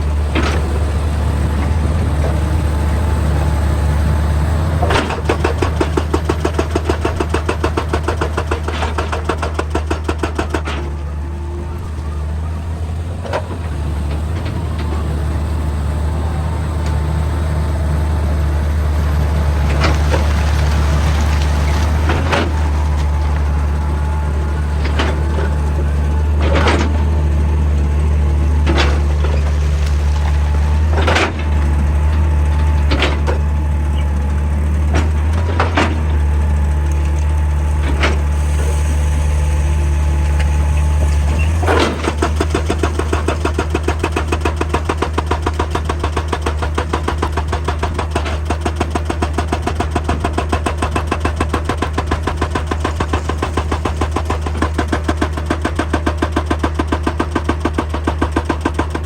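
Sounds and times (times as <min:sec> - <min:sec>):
diesel engine under load: 0:00.0 - 0:59.0
hydraulic rock breaker hammering: 0:00.0 - 0:59.0.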